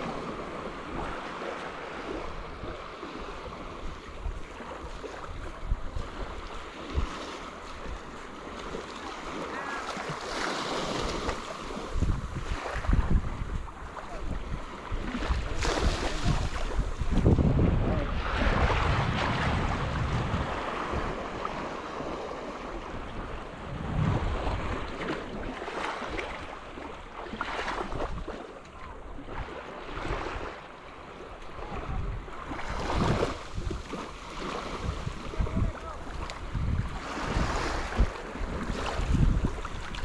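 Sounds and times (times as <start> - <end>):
wind buffeting microphone: 0.0 - 8.7, 10.6 - 27.0, 31.5 - 40.0
surf breaking on beach: 0.0 - 28.4, 31.3 - 40.0.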